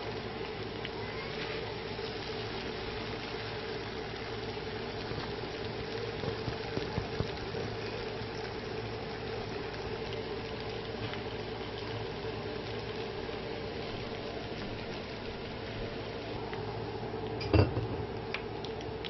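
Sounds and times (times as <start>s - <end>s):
constant hum: 0.0s - 19.0s
noodles sizzling in frying pan: 0.0s - 19.0s.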